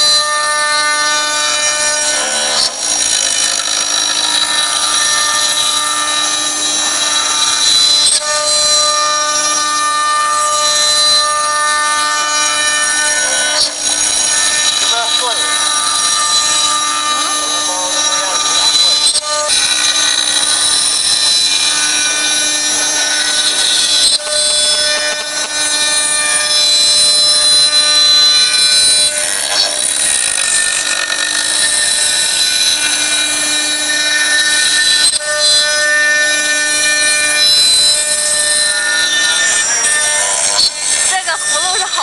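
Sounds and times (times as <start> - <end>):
bit cutting wood: 0.0 - 42.0
router spindle whining: 0.0 - 42.0.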